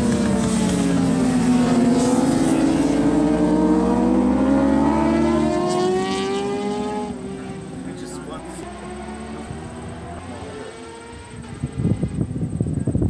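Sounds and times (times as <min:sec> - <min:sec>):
racing motorcycles accelerating: 0:00.0 - 0:12.8.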